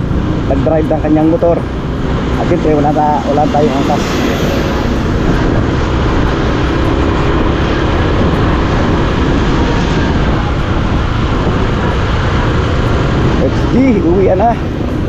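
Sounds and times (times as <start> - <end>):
motorcycle engine running: 0.0 - 15.0
wind over microphone: 0.0 - 15.0.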